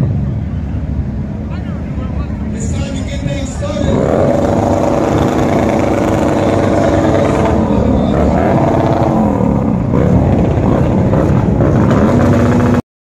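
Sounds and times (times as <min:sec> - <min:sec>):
motorcycle engines running: 0:00.0 - 0:12.8.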